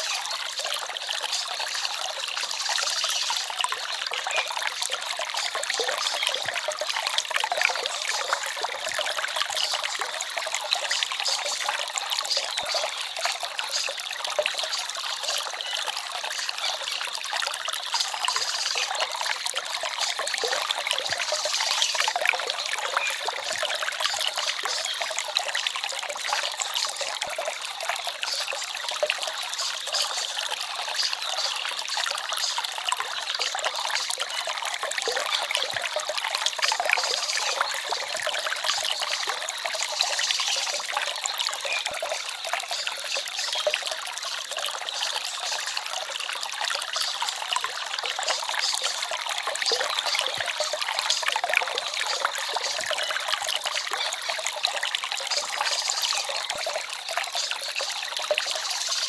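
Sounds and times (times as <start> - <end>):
small stream trickling: 0.0 - 59.0.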